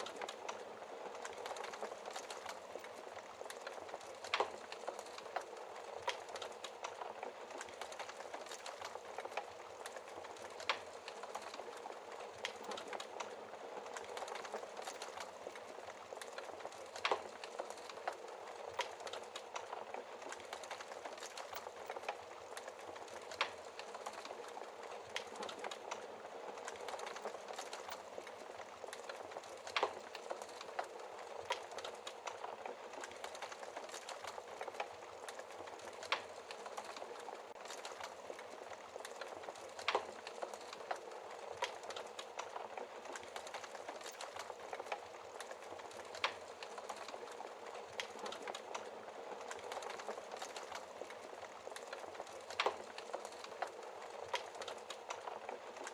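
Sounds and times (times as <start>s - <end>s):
fire popping: 0.0s - 55.9s
wood fire crackling: 0.0s - 55.9s.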